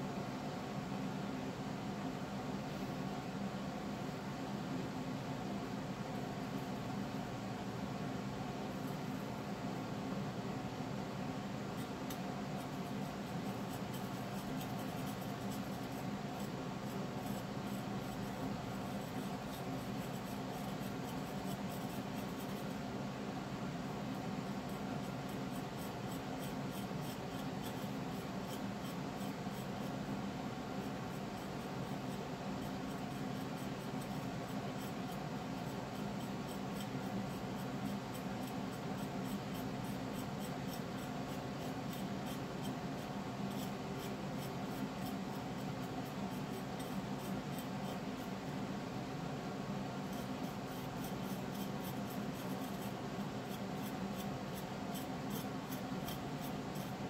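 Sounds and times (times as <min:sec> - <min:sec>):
background hum and hiss: 0:00.0 - 0:57.0.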